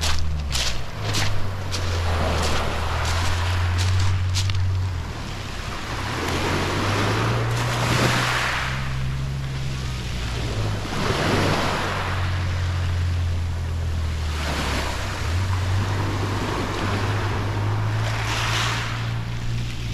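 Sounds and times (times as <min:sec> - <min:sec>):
small waves breaking: 0:00.0 - 0:19.9
steady low rumble: 0:00.0 - 0:19.9.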